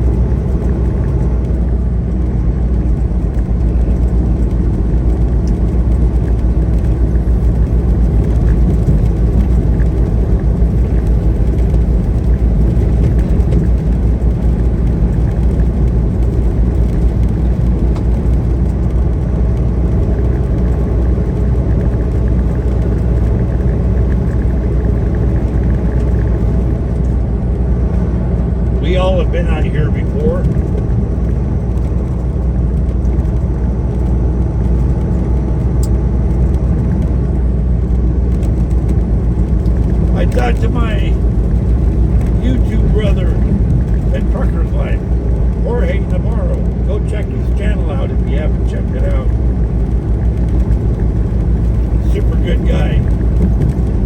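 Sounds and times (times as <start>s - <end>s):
road rumble: 0.0s - 54.0s
truck engine drone: 0.0s - 54.0s.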